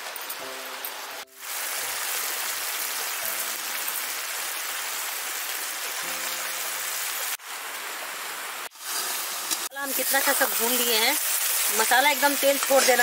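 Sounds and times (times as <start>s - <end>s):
spices frying in oil: 0.0s - 13.0s.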